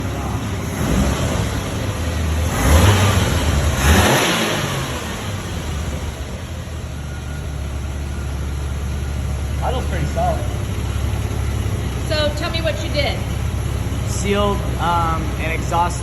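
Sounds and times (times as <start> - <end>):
car engine running and revving: 0.0 - 16.0.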